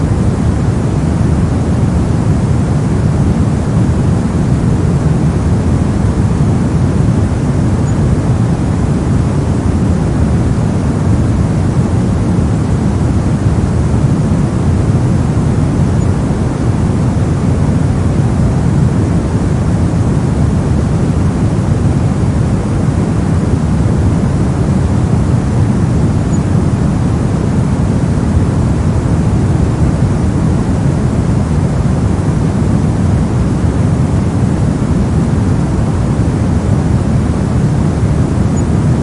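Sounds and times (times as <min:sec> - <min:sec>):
brown noise hiss: 0:00.0 - 0:39.0.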